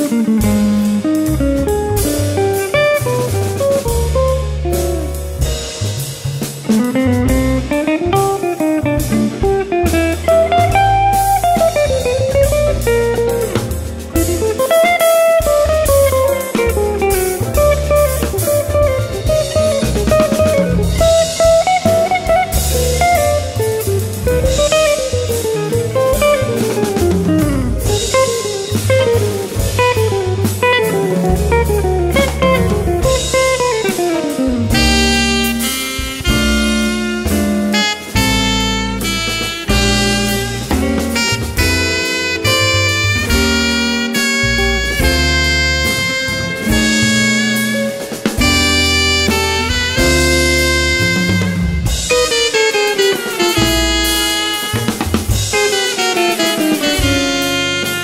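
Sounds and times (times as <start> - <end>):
double bass: 0.0 - 58.0
drum kit: 0.0 - 58.0
jazz guitar melody: 0.0 - 58.0.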